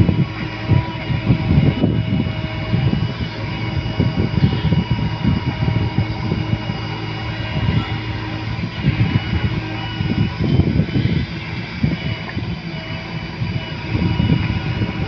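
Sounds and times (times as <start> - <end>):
backhoe diesel engine digging: 0.0 - 15.0
thin steady whine: 0.0 - 15.0.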